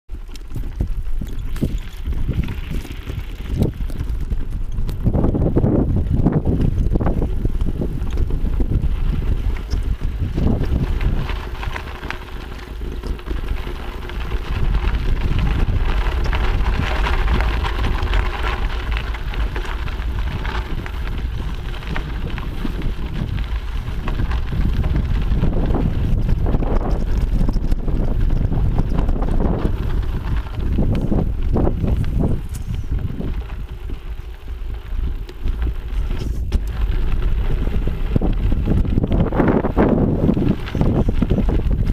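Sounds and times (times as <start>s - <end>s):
bike knocks and rattles: 0.1s - 41.9s
tyres crunching on dirt trail: 0.1s - 41.9s
wind buffeting microphone: 0.1s - 41.9s.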